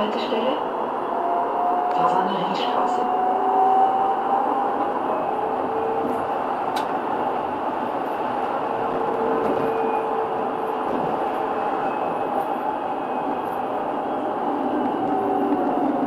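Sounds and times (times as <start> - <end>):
tram rolling noise: 0.0 - 16.0.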